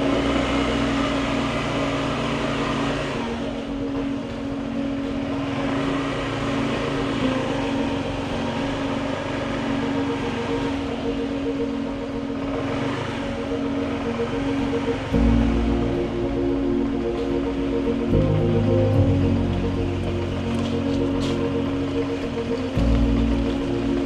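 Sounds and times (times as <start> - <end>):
road noise: 0.0 - 24.0
scooter engine humming: 0.0 - 24.0.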